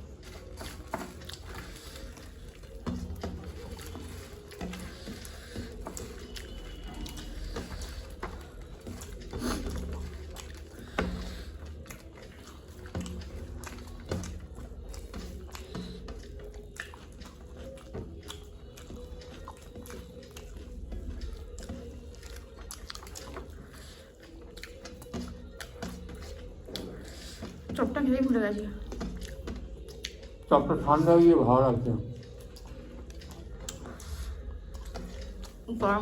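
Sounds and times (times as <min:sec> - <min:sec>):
chewing and biting food: 0:00.0 - 0:36.0.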